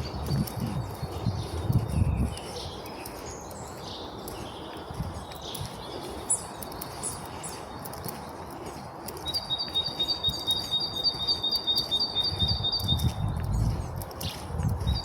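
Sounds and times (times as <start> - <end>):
birds chirping and singing: 0.0 - 15.0.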